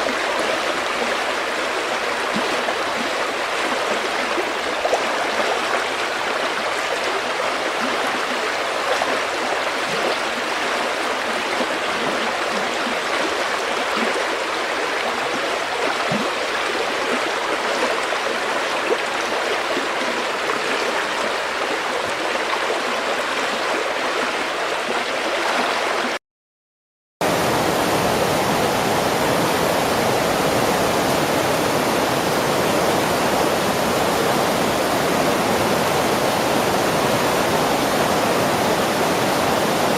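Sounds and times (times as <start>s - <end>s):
river water flowing: 0.0s - 26.2s, 27.2s - 39.9s.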